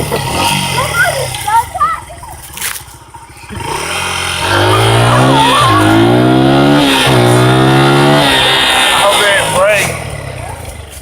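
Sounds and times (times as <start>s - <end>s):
dirt bike engine accelerating: 0.0s - 11.0s.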